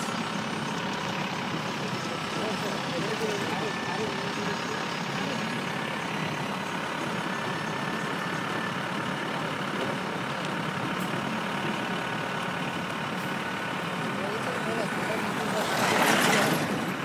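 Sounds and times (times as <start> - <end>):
van road and engine noise: 0.0 - 17.0.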